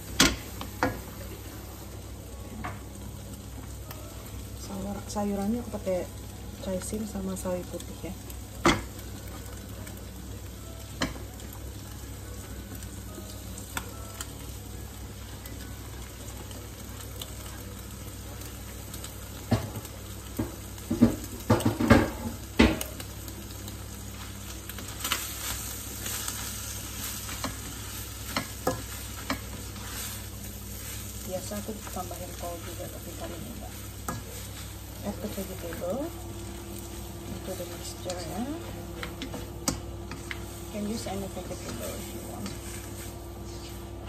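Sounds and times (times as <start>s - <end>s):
vegetables sizzling in a wok: 0.0s - 44.0s.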